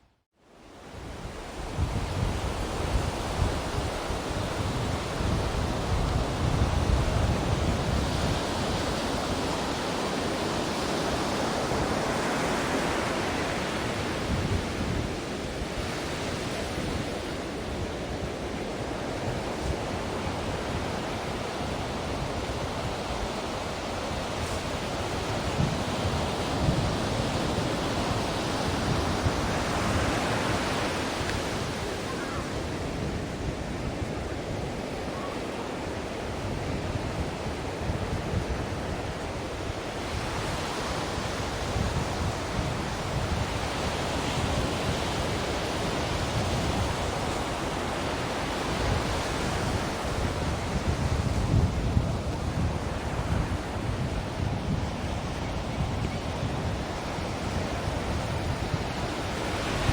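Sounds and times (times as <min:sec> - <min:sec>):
ocean waves breaking: 0:01.4 - 0:59.9.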